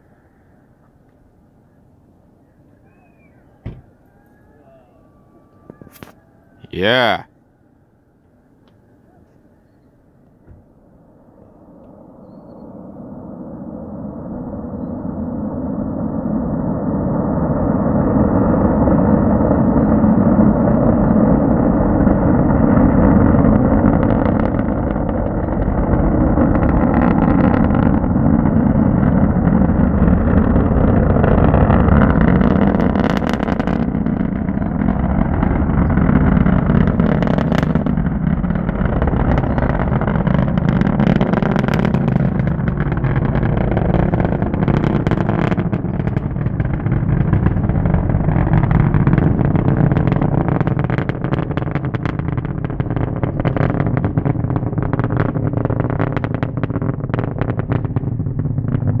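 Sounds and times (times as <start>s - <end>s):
rocket engines rumbling: 0.0s - 59.0s.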